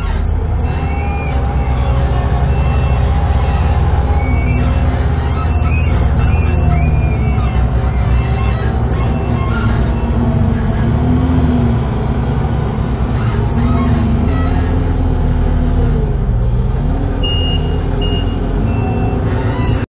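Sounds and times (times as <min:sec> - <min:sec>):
low motor drone: 0:00.0 - 0:19.8.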